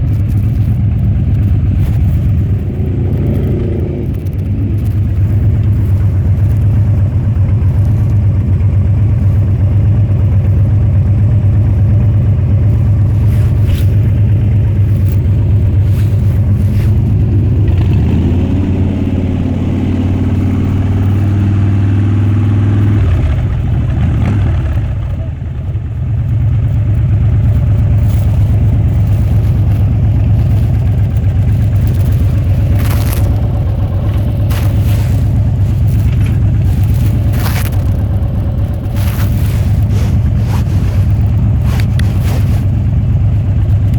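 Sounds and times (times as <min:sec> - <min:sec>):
motorcycle engine and exhaust running: 0:00.0 - 0:43.9.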